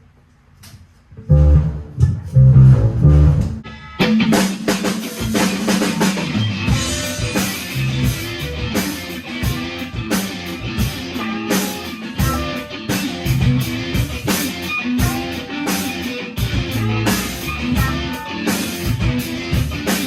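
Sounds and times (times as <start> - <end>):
heavy low guitar notes: 1.2 - 20.0
rock band playing: 1.3 - 20.0.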